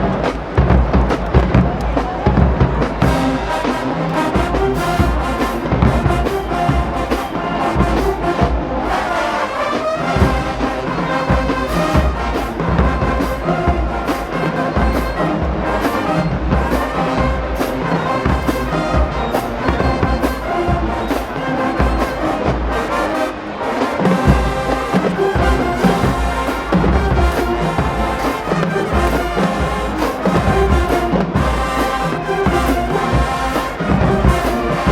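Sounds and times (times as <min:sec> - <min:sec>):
brass section sustained chords: 0:00.0 - 0:34.9.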